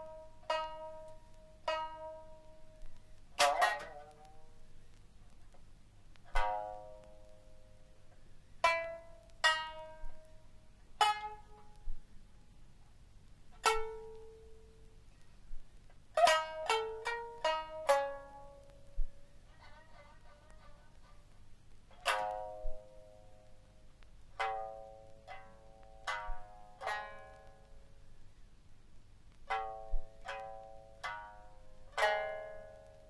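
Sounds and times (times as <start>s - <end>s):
plucked lute notes: 0.0s - 12.3s, 13.5s - 28.1s, 29.3s - 33.0s.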